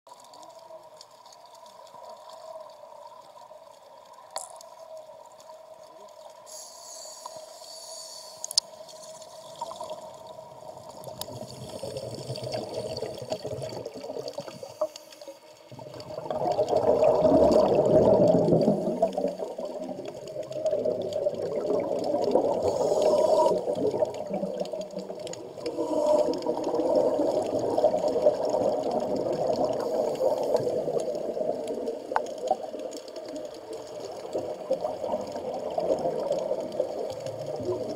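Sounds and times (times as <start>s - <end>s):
underwater hum: 0.1s - 37.9s
bubbling and gurgling exhaled air: 6.4s - 37.9s.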